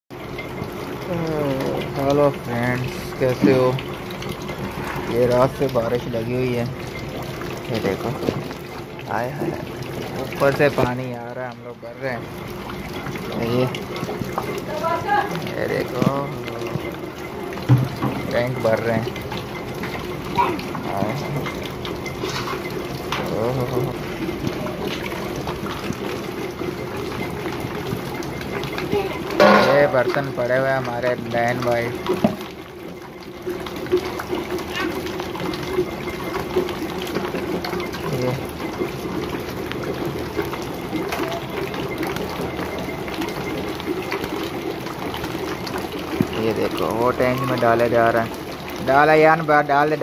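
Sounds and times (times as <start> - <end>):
steady rain: 0.1 - 50.0
water splashing into buckets: 0.1 - 50.0
water splashing on concrete: 0.3 - 50.0.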